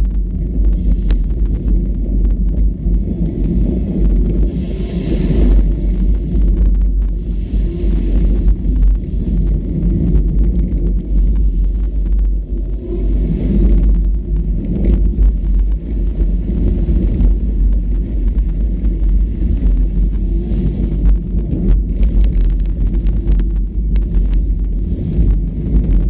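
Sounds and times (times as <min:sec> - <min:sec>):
off-road vehicle rumble: 0:00.0 - 0:26.0
sharp clicks and rattles: 0:00.0 - 0:26.0
wind buffeting microphone: 0:00.0 - 0:26.0.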